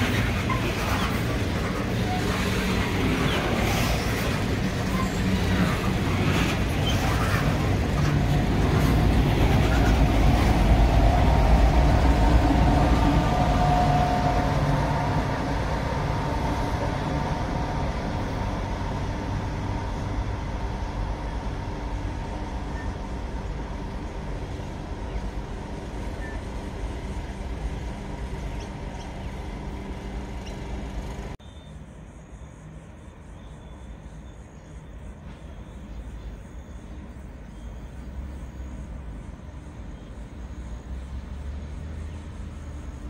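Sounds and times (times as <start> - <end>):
outdoor background noise: 0.0 - 43.0
train rumbling along track: 0.0 - 43.0.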